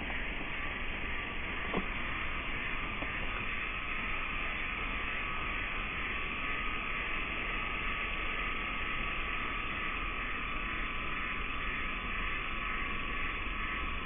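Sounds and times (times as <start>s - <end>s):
constant high tone: 0.0s - 14.0s
steady hiss: 0.0s - 14.0s.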